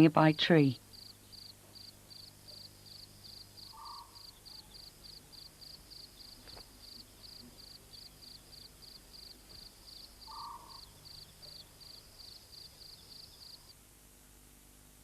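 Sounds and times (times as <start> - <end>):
faint insect chirping: 0.6 - 13.8
short lower insect call: 0.9 - 13.8.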